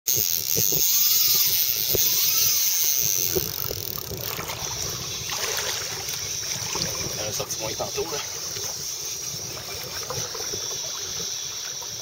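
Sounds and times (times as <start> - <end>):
fishing reel drag whirring: 0.1 - 12.0.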